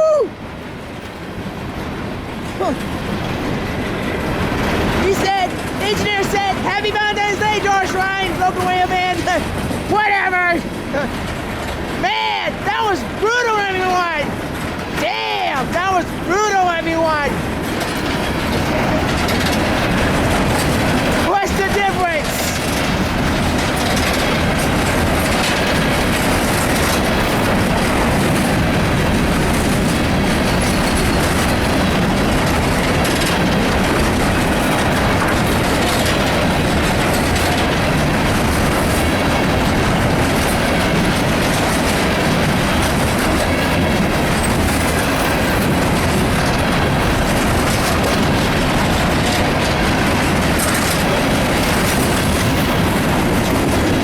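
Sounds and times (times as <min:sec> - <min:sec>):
freight train rumbling past: 0:00.0 - 0:54.0
wheels clattering over rail joints: 0:00.5 - 0:54.0.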